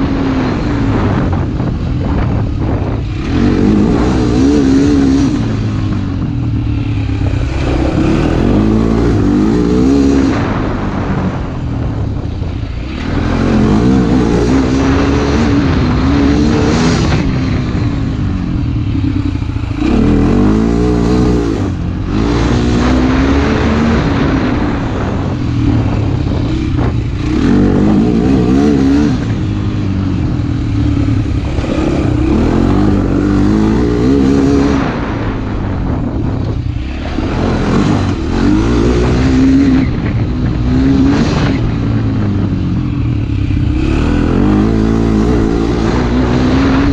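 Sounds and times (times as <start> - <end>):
low wind rumble: 0.0 - 46.9
motorcycle engine revving: 0.0 - 46.9.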